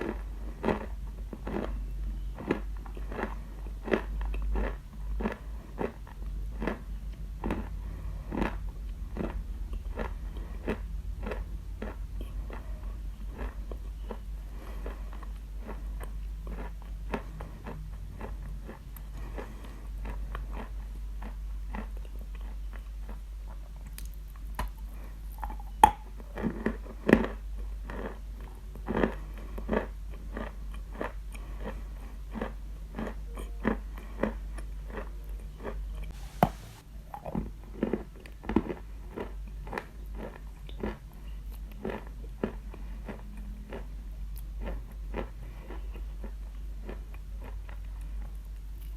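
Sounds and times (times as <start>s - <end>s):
person chewing chalk crunching: 0.0s - 48.9s
steady low hum: 0.0s - 48.9s.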